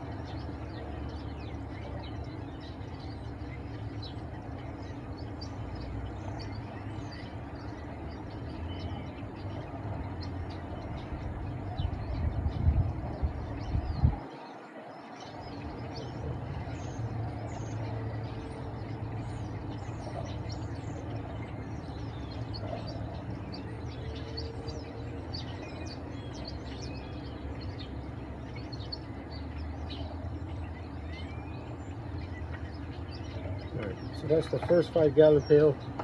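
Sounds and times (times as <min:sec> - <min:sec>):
low vehicle rumble: 0:00.0 - 0:36.0
small birds chirping: 0:00.0 - 0:36.0.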